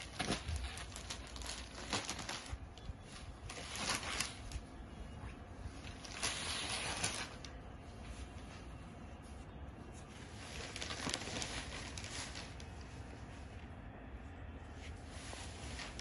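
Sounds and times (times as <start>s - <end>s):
fabric rustling: 0.0s - 16.0s.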